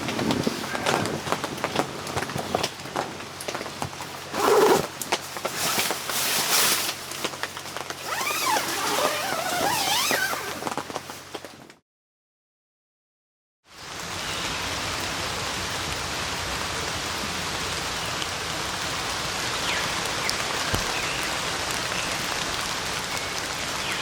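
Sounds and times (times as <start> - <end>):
steady rain: 0.0 - 11.5, 13.7 - 24.0.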